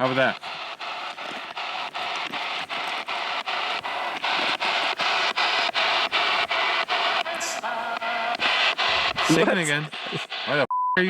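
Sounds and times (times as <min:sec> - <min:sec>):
radio static scanning: 0:00.0 - 0:10.7.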